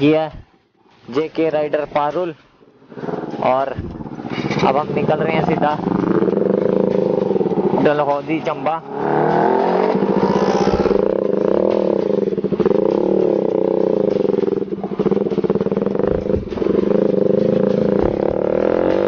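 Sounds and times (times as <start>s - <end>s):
motorcycle engine accelerating: 2.7s - 19.0s.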